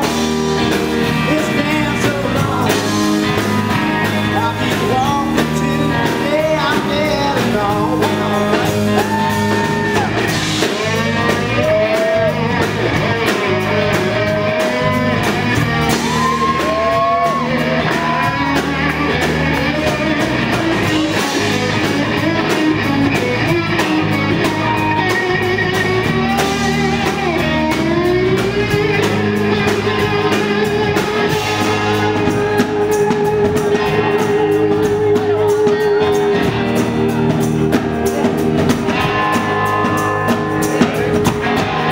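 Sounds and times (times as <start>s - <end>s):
bass guitar: 0.0s - 41.9s
drums: 0.0s - 41.9s
electric guitar solo: 8.3s - 41.9s.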